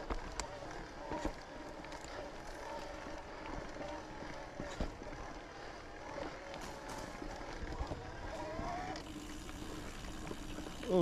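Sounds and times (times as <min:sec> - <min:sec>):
bike rattling: 0:00.0 - 0:11.0
bike tyres on dirt trail: 0:00.0 - 0:11.0.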